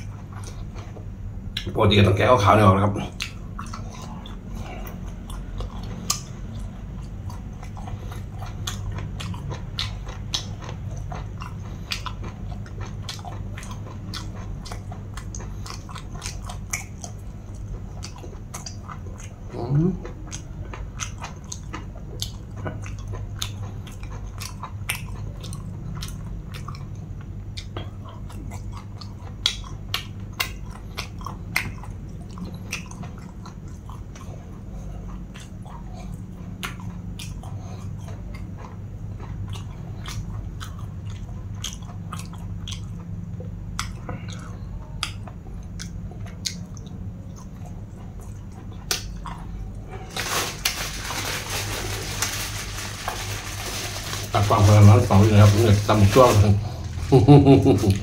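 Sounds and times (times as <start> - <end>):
person chewing and biting: 0.0 - 1.7, 3.0 - 58.0
steady low hum: 0.0 - 58.0.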